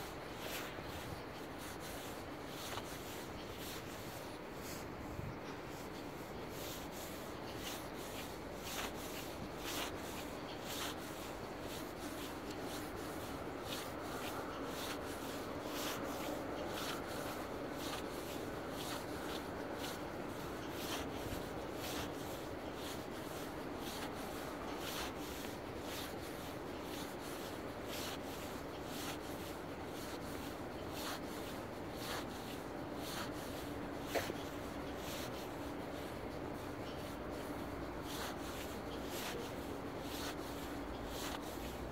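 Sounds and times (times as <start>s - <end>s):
steady low hum: 0.0s - 41.9s
footsteps on asphalt: 0.3s - 4.9s, 5.5s - 36.4s.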